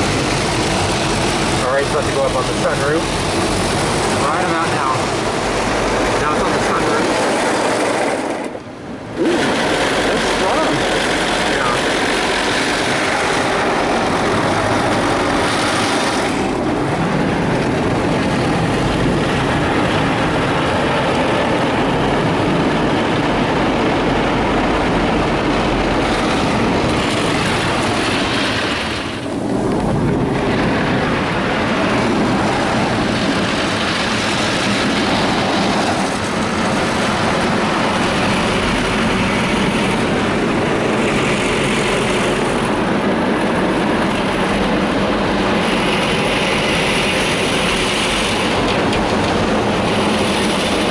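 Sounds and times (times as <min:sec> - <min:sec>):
water jets spraying on car roof: 0:00.0 - 0:07.7, 0:08.6 - 0:21.3, 0:24.1 - 0:50.9.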